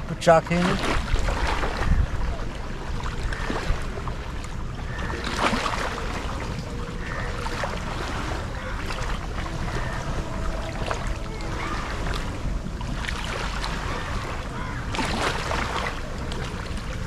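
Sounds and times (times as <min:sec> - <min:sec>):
waves washing against bank: 0:00.0 - 0:17.0
wind buffeting microphone: 0:00.0 - 0:17.0.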